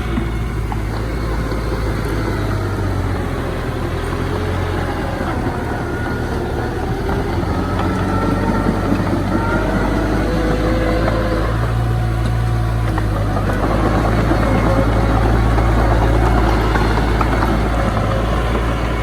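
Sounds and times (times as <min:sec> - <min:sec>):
diesel engine drone: 0:00.0 - 0:19.0
wavering whine: 0:00.0 - 0:19.0.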